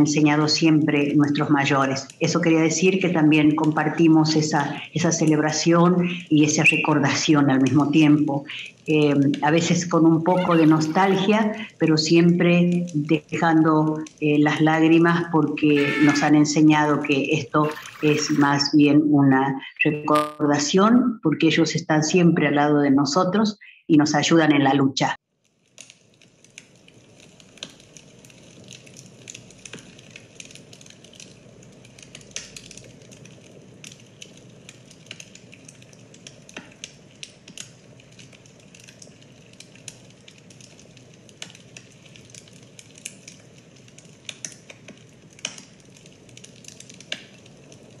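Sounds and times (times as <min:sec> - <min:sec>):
campfire crackling and popping: 0:00.0 - 0:18.7, 0:25.3 - 0:48.0.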